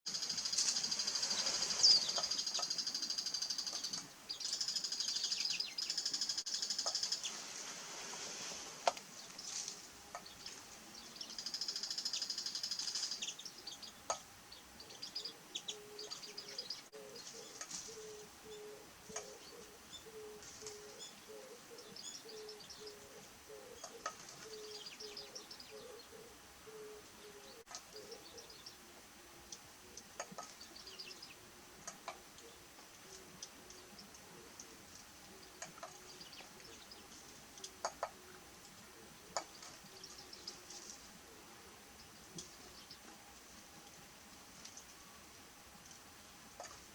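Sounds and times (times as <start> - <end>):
songbirds twittering: 0.1 - 7.6, 8.8 - 46.9.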